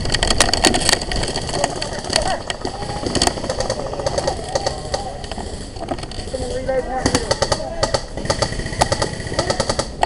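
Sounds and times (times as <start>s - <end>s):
wind rumble: 0.0s - 10.0s
faint distant voices: 1.5s - 10.0s.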